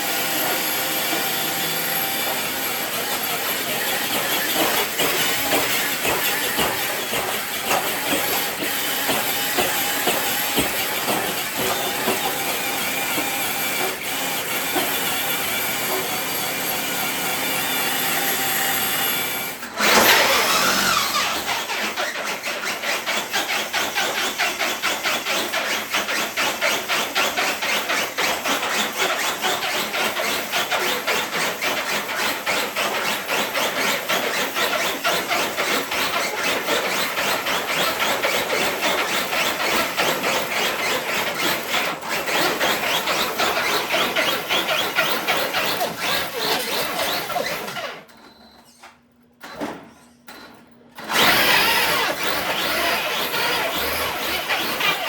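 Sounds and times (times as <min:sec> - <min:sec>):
electric toy truck motor: 0:00.0 - 0:48.8, 0:51.0 - 0:55.0.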